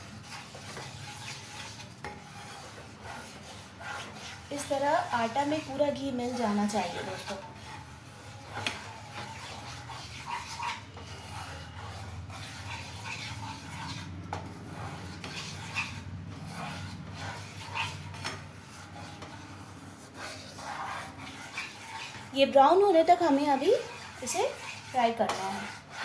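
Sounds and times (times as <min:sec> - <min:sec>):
spatula scraping pan: 0:00.0 - 0:26.0.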